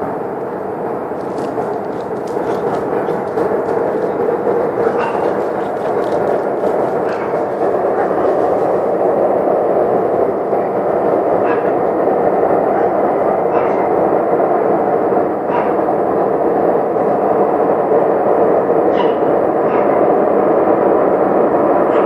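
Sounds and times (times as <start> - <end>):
loud steady rumbling: 0.0 - 22.0.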